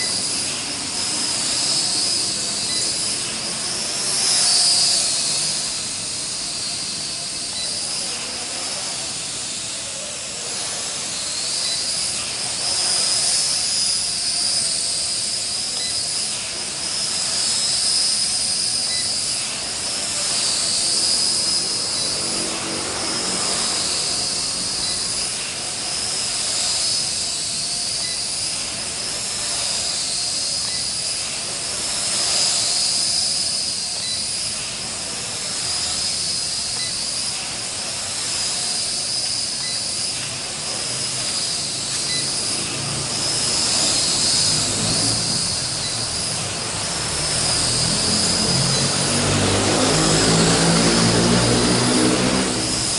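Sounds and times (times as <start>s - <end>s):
quadcopter motors whining: 0.0s - 52.9s.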